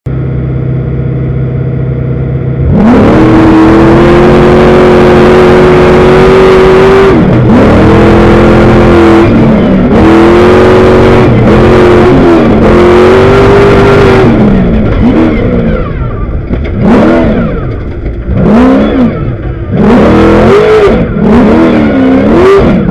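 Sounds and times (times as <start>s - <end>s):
race car engine revving: 2.2s - 22.9s.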